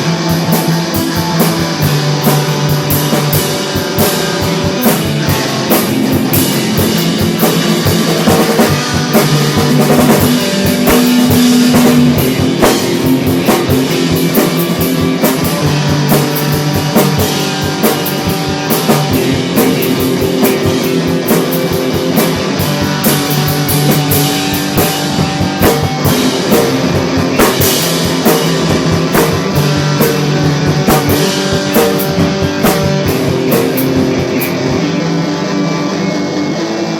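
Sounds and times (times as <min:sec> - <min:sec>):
rock music on drums and guitar: 0:00.0 - 0:36.9.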